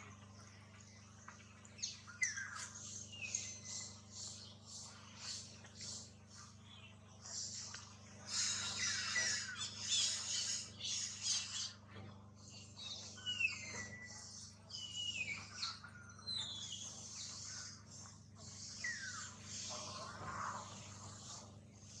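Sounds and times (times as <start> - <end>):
birds squawking: 1.8 - 22.0.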